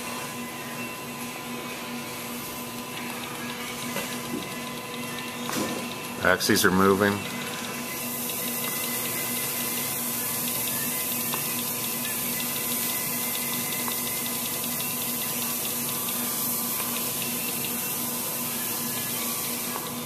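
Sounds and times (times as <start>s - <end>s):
milling machine hiss: 0.0s - 20.0s.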